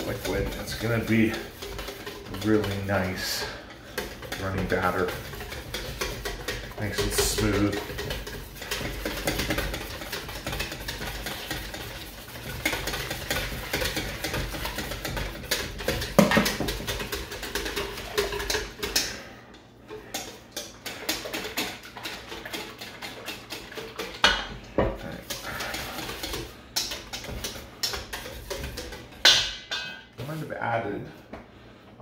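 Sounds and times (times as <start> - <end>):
whisk clicking against bowl: 0.0 - 19.2, 19.9 - 29.4.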